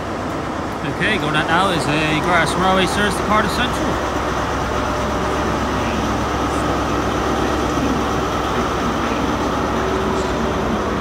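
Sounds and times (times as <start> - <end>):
diesel train engines running: 0.0 - 11.0.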